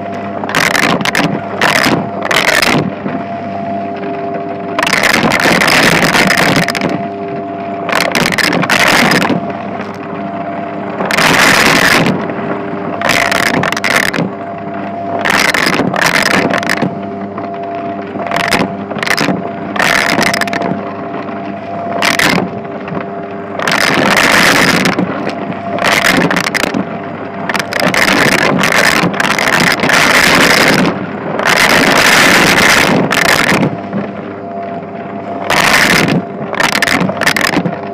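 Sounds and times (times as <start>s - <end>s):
rushing suction noise: 0.0s - 3.7s, 4.8s - 10.0s, 10.9s - 12.3s, 13.0s - 14.4s, 15.0s - 17.0s, 18.2s - 22.7s, 23.5s - 34.1s, 35.3s - 37.9s.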